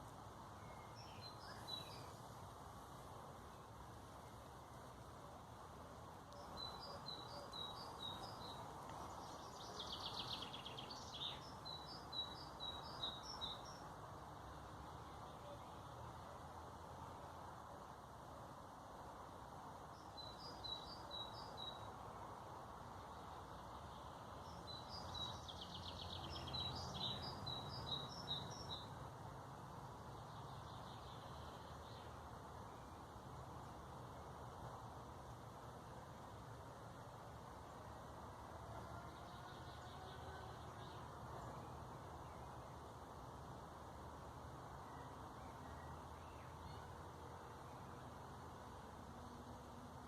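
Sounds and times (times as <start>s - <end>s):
faint background hiss: 0.0s - 50.0s
songbird singing: 0.0s - 50.0s.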